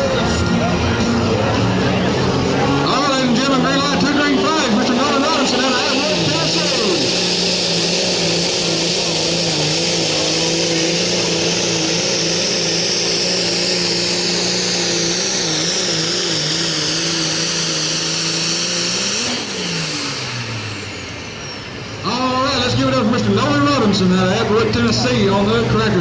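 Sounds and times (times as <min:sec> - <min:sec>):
high whine sliding down: 0:00.0 - 0:24.0
pulling vehicle engine revving hard: 0:00.0 - 0:26.0.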